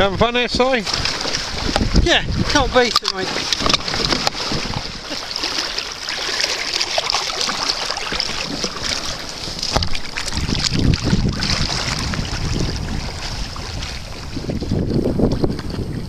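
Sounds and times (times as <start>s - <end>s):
wind buffeting microphone: 0.0s - 5.8s, 7.4s - 16.0s
water lapping against kayak hull: 0.0s - 16.0s.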